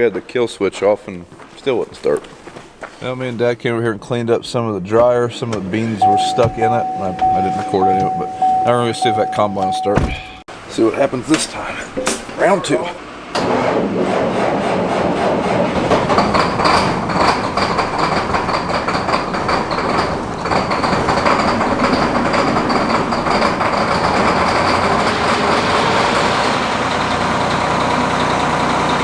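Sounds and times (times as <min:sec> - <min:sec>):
diesel engine starting and running: 0:04.2 - 0:29.0.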